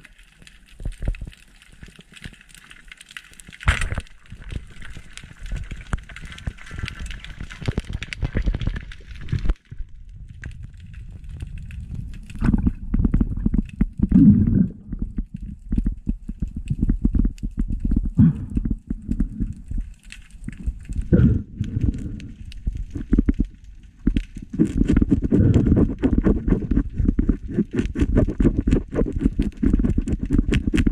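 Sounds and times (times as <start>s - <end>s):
low knocks and clicks underwater: 0.0s - 30.9s.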